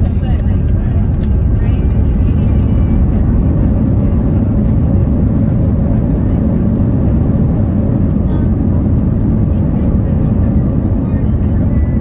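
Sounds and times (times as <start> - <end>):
aircraft engine rumble: 0.0 - 12.0.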